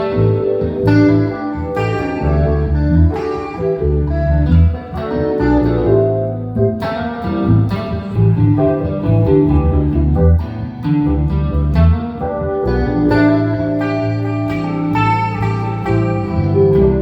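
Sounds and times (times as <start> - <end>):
deep held bass notes: 0.0 - 17.0
guitar melody: 0.0 - 17.0.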